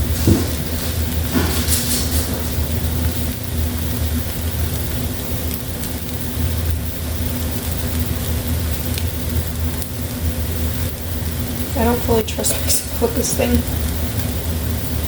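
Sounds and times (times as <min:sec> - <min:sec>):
eggs sizzling in a frying pan: 0:00.0 - 0:15.0.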